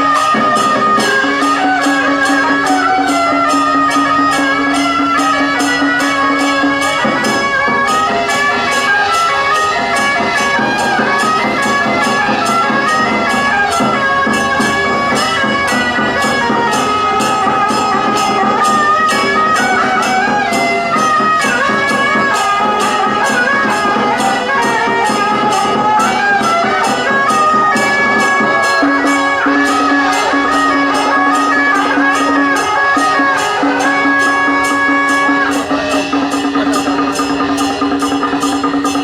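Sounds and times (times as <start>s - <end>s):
steady percussion beats: 0.0s - 39.0s
wind instruments playing melody: 0.0s - 39.0s.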